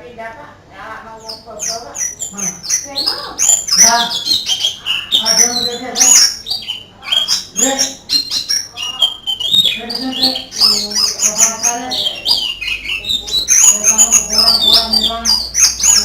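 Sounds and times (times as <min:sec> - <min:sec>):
bird singing chirps and trills: 0:01.0 - 0:16.0.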